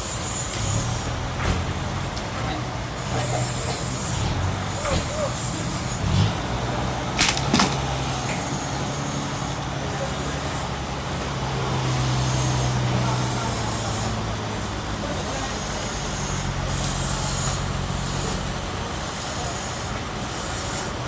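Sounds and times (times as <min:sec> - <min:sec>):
sawmill machinery humming: 0:00.0 - 0:21.0.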